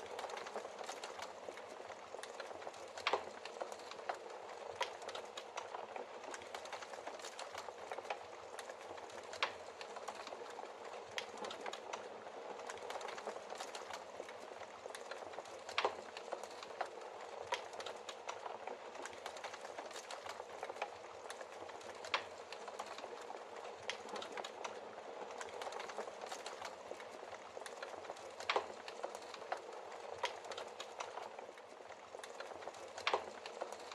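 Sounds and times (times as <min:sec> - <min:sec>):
fire hissing and crackling: 0:00.0 - 0:33.9.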